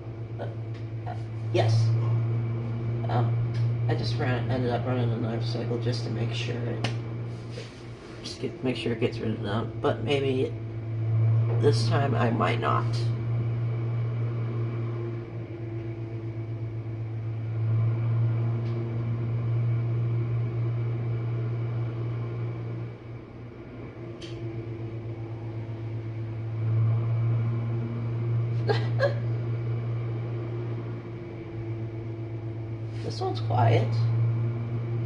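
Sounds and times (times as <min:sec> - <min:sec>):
dishwasher motor hum: 0:00.0 - 0:35.0.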